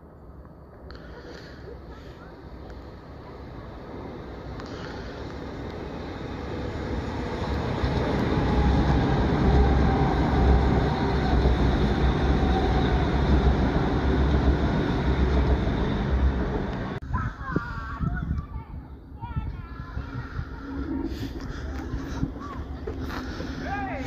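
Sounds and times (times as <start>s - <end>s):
passenger train passing: 0.0s - 17.0s, 19.1s - 24.0s.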